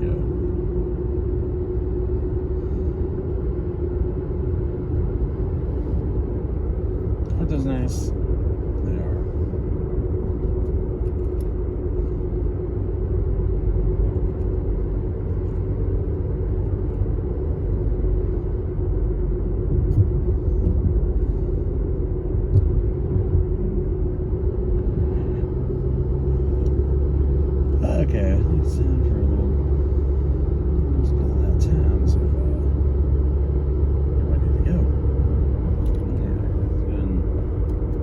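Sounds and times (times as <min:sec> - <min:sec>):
car driving rumble: 0:00.0 - 0:38.0.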